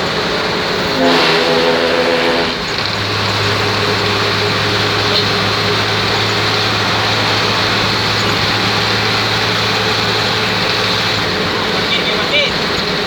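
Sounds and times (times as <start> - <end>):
bus engine droning: 0.0 - 13.0
road and tyre noise: 0.0 - 13.0.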